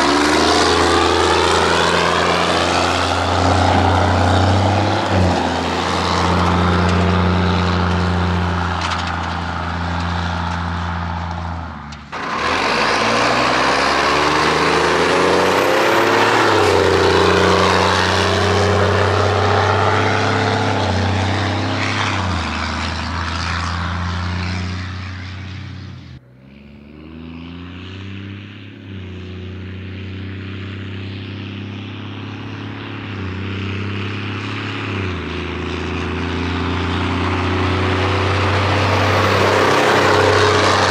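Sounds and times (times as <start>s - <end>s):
diesel truck exhaust under load: 0.0s - 40.9s.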